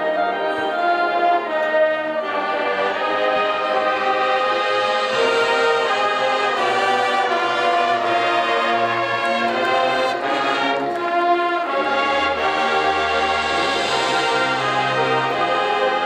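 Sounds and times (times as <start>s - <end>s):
marching band brass and woodwinds: 0.0s - 16.0s.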